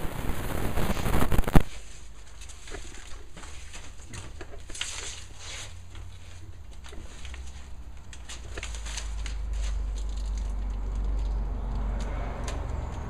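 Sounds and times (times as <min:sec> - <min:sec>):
faint scattered crackles: 0:00.0 - 0:11.4
foil insulation crinkling: 0:00.0 - 0:11.4.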